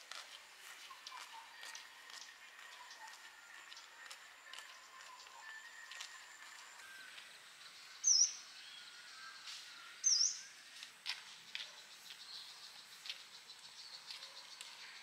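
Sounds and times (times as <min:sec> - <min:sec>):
bird chirps: 0:00.7 - 0:15.0
distant birdsong: 0:00.7 - 0:15.0.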